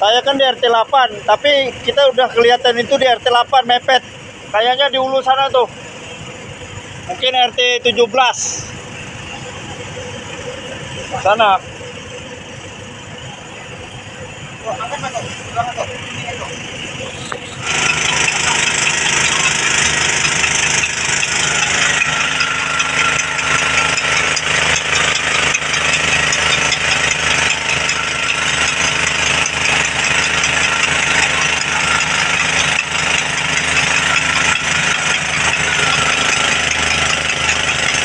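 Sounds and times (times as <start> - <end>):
water pump engine running: 0.0 - 38.0.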